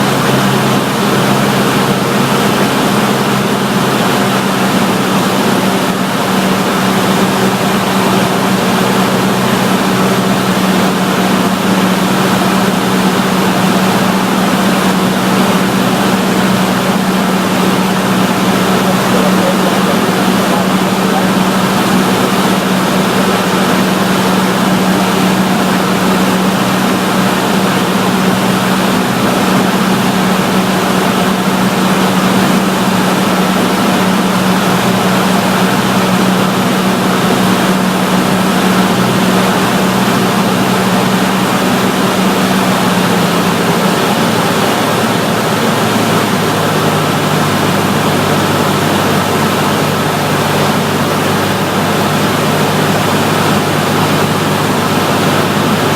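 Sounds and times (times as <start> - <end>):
small plane engine and propeller: 0.0 - 55.9
wind and airframe noise: 0.0 - 55.9.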